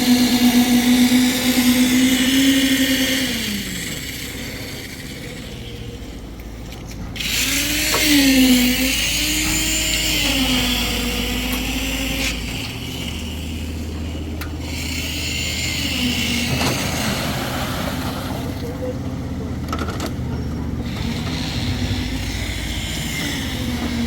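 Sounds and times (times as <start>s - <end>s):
small engine revving: 0.0s - 24.0s.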